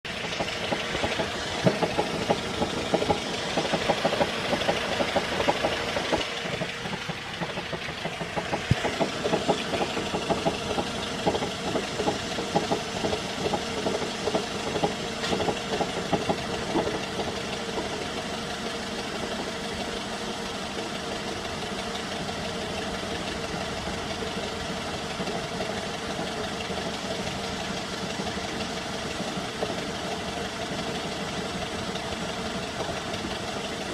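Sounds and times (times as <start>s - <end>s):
car engine idling: 0.0s - 33.9s
knocking from clutch area: 0.0s - 33.9s.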